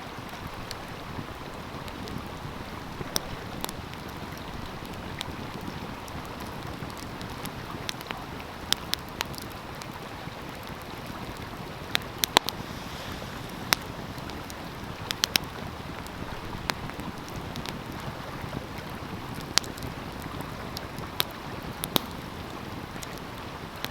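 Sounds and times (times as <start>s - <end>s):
flowing stream: 0.0s - 23.9s
wood fire crackling and popping: 1.8s - 23.9s.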